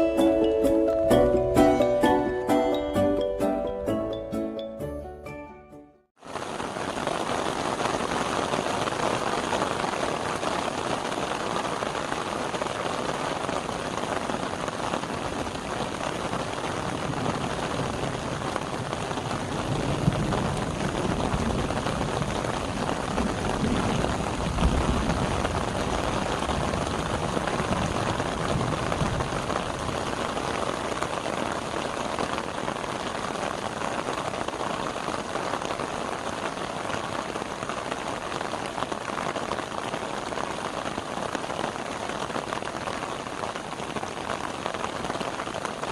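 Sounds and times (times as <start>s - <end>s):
rain pattering on surfaces: 6.2s - 45.9s.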